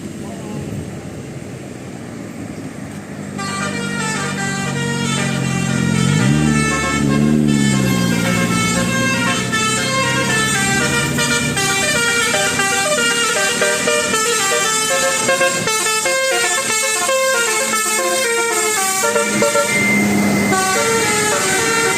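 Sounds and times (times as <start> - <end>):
multi-tone bus air horn tune: 3.3 - 21.9.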